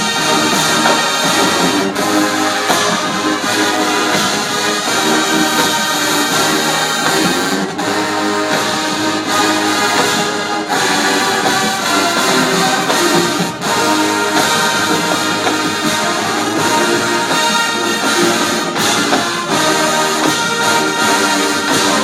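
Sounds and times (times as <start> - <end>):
marching band brass music: 0.0 - 22.0.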